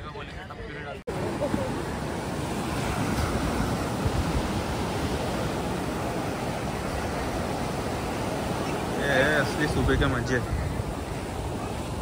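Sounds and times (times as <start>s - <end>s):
sea surf breaking on sand: 1.1s - 12.0s
wind rumbling on microphone: 1.2s - 12.0s.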